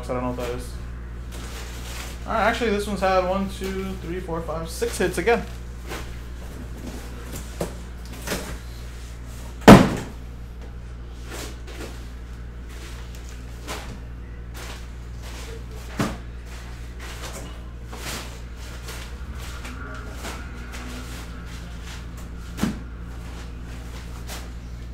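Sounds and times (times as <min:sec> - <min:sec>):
low electrical hum: 0:00.0 - 0:24.9.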